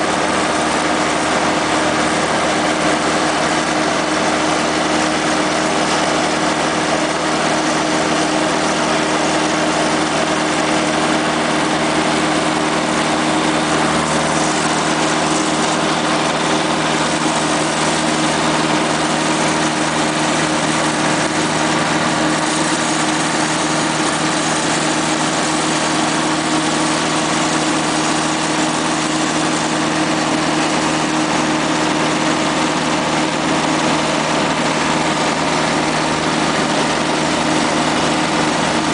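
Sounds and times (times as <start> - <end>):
engine running under load: 0.0 - 38.9.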